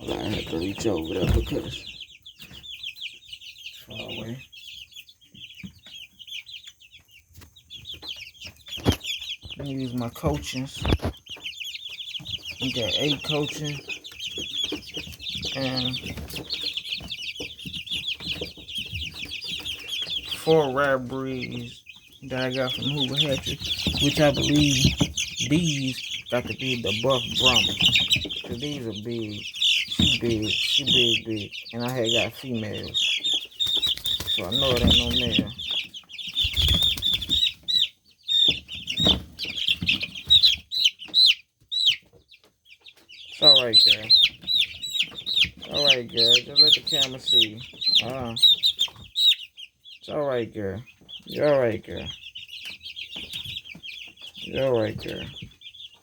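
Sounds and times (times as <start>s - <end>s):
chicks peeping: 0.0s - 56.0s.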